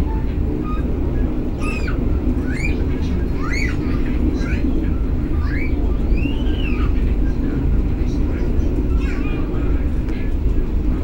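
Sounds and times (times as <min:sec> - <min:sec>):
train rumbling along track: 0:00.0 - 0:11.0.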